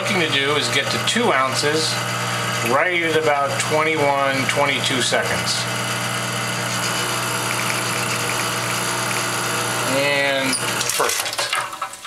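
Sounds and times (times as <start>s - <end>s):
espresso machine pump humming: 0.0s - 10.9s.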